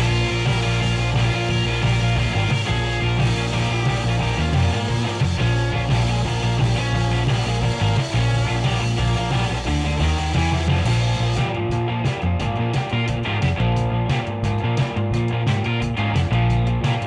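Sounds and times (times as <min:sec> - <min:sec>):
rock music with guitar and bass: 0:00.0 - 0:17.0.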